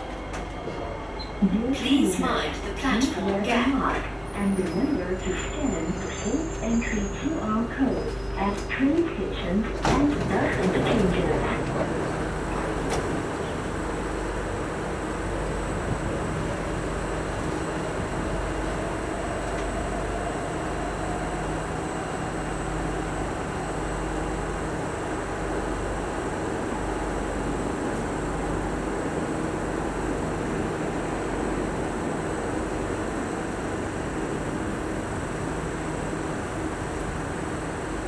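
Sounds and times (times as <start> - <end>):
train carriage hum and rumble: 0.0 - 38.0.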